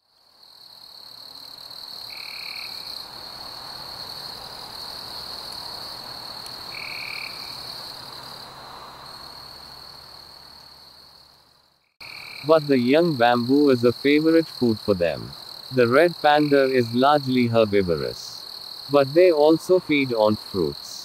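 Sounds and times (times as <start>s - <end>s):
high insect drone: 0.1s - 21.0s.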